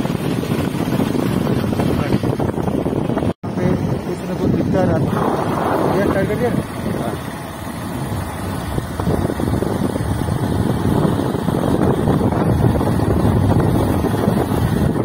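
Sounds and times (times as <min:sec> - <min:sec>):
motorbike running: 0:00.0 - 0:15.0
wind buffeting microphone: 0:00.0 - 0:15.0.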